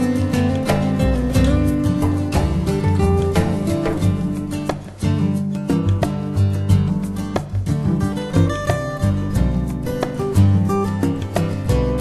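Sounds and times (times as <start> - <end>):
guitar music with beat: 0.0 - 12.0.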